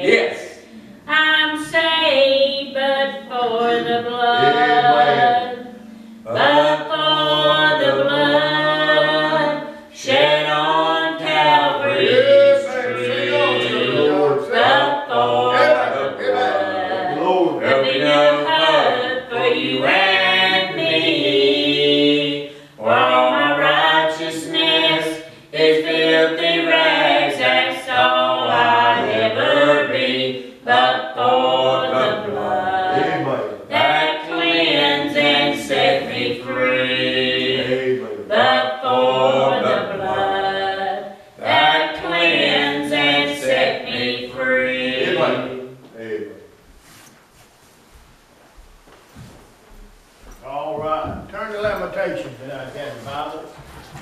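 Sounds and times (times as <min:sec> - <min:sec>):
man and woman singing gospel: 0:00.0 - 0:47.1, 0:50.0 - 0:54.0.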